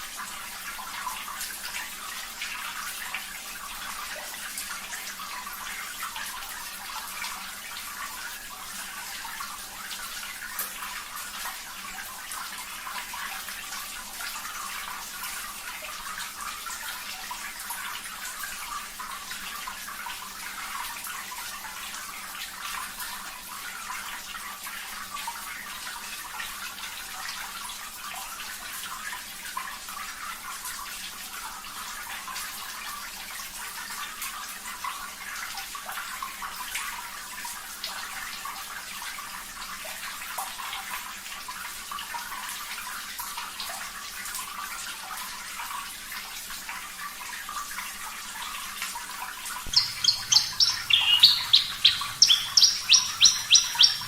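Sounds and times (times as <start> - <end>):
running trickling water: 0.0 - 54.0.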